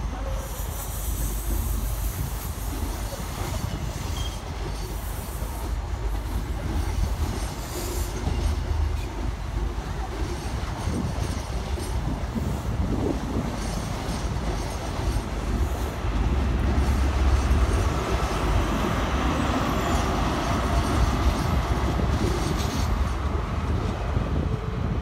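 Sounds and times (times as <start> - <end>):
diesel locomotive engine passing: 0.0 - 25.0
train wheels rumbling over rail joints: 0.0 - 25.0.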